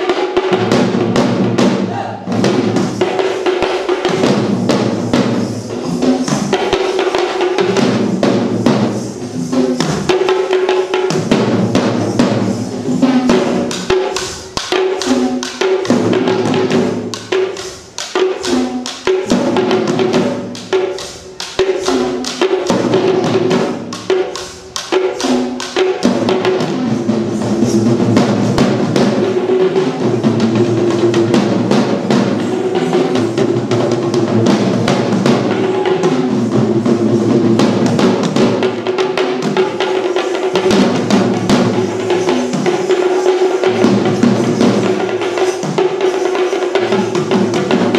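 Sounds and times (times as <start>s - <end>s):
hand drums playing rapid rhythms: 0.0s - 47.9s.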